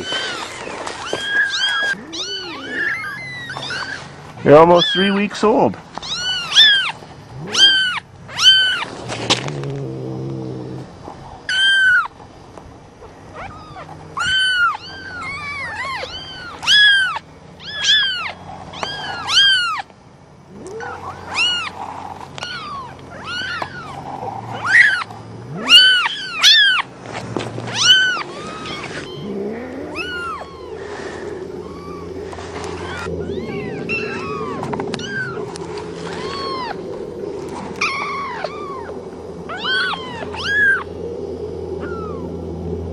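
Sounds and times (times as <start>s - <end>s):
kittens mewing: 0.0s - 9.8s, 10.7s - 12.2s, 13.0s - 40.9s, 41.8s - 42.3s.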